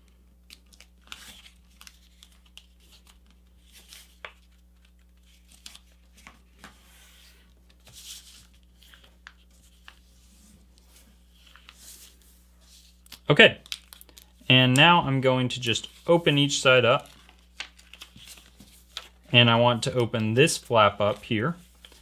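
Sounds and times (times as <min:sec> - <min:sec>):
paper crinkling and rustling: 0:00.5 - 0:14.4, 0:15.8 - 0:22.0.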